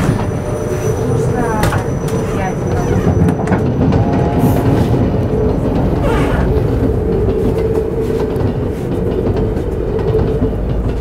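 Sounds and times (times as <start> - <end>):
train carriage rumbling on rails: 0.0 - 11.0.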